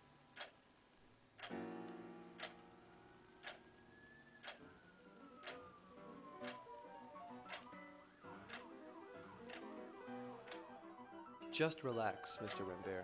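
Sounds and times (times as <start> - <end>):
faint clock ticking: 0.0 - 13.0.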